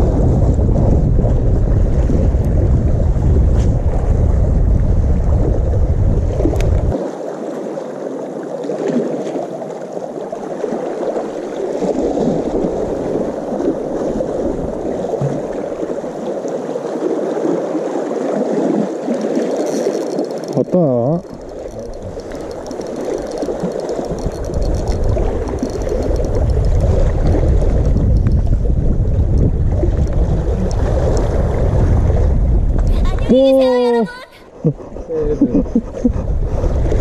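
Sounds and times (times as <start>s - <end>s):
wind rumbling on microphone: 0.0s - 7.2s, 10.6s - 37.0s
sea water washing: 0.0s - 35.0s, 35.8s - 37.0s.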